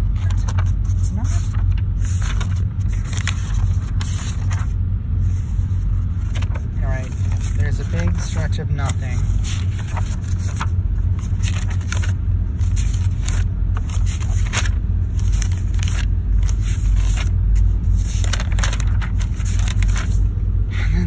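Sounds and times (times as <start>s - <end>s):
notebook pages flipping: 0.0s - 20.2s
low rumble: 0.0s - 21.0s.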